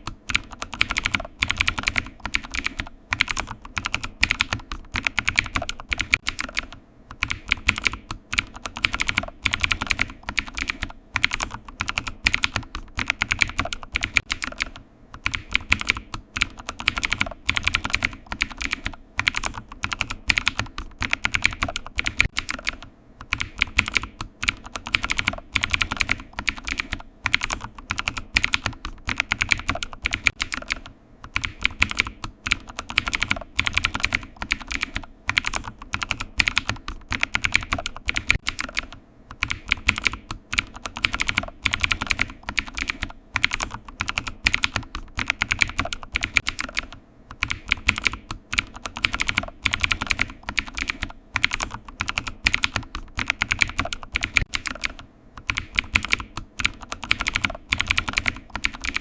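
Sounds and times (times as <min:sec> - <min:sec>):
keyboard typing: 0:00.0 - 0:59.0.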